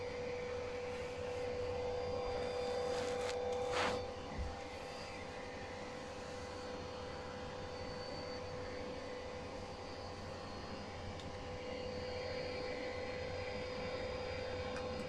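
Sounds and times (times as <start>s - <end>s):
electrical hum with whine: 0.0s - 15.0s.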